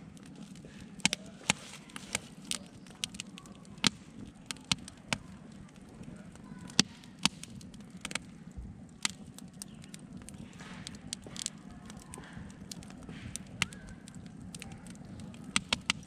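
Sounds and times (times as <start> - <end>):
campfire popping and crackling: 0.0 - 16.0
low rush of flame: 0.0 - 16.0.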